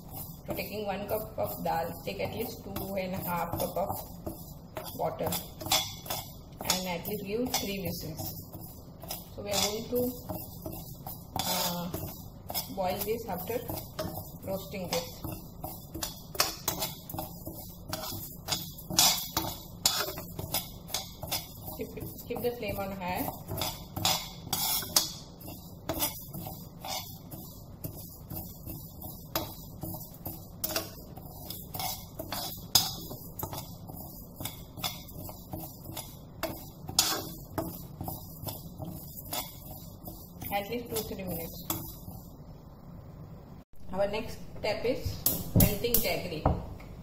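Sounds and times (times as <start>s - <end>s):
spoon scraping a frying pan: 0.0s - 42.5s.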